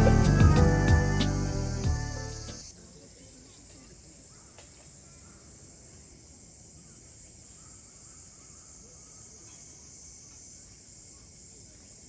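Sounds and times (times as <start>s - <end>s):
faint chirps: 0.0s - 12.0s
insect chorus drone: 0.0s - 12.0s.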